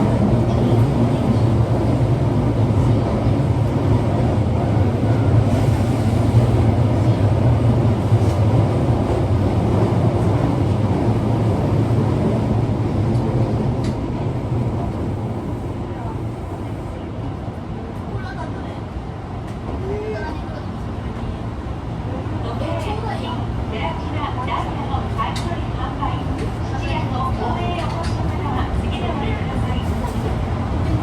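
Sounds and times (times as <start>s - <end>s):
train rumbling in tunnel: 0.0s - 31.0s.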